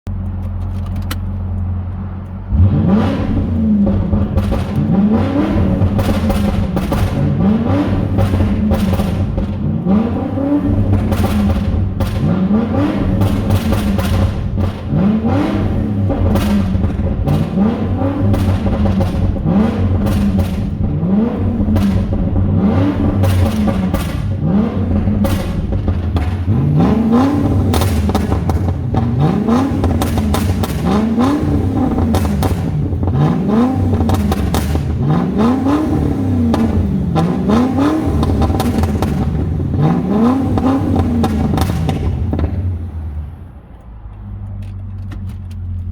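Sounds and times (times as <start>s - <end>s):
exhaust crackles and pops: 0.1s - 43.2s
car engine revving: 0.2s - 45.9s.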